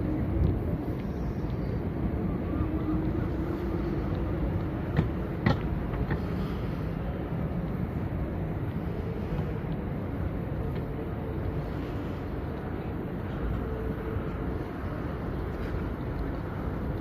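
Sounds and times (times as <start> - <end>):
city low rumble: 0.0 - 17.0.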